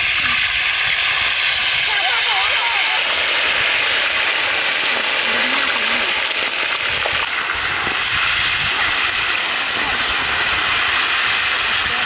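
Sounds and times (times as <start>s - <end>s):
fish deep-frying sizzle: 0.0s - 12.0s.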